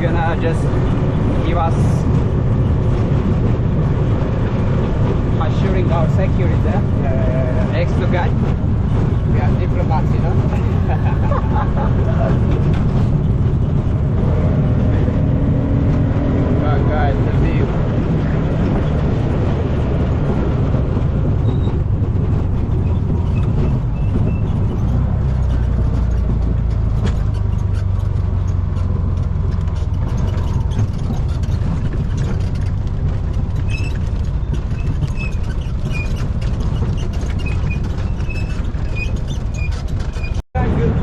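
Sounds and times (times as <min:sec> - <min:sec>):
vehicle driving on dirt road: 0:00.0 - 0:41.0.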